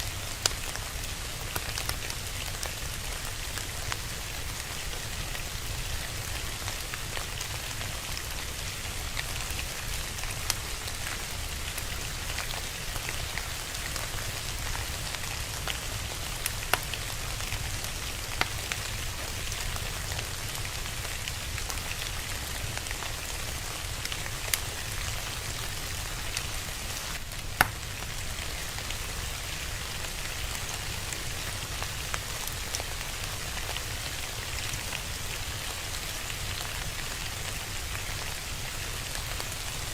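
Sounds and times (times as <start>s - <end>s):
fire crackling and popping: 0.0s - 39.9s
steady rain: 0.0s - 39.9s.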